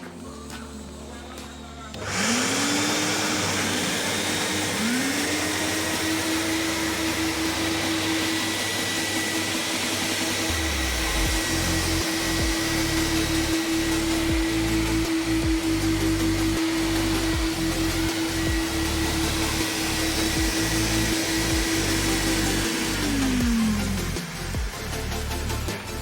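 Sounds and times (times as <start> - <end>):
vacuum motor whine and air rush: 0.0 - 26.0.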